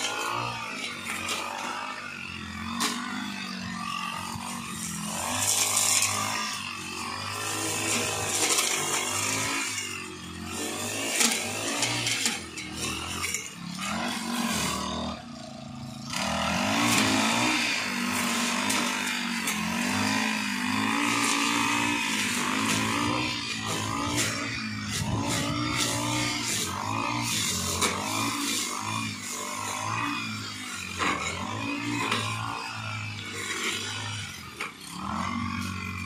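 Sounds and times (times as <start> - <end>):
brush cutter engine cutting grass: 0.0 - 36.0.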